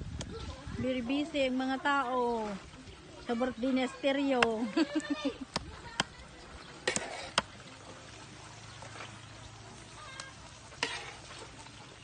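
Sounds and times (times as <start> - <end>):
food sizzling on charcoal grill: 0.0 - 12.0.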